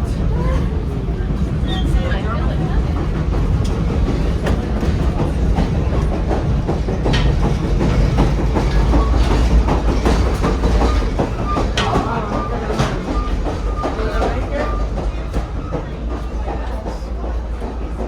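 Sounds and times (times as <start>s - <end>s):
train rumbling on track: 0.0s - 18.0s
clicks and knocks of train wheels: 0.2s - 18.0s.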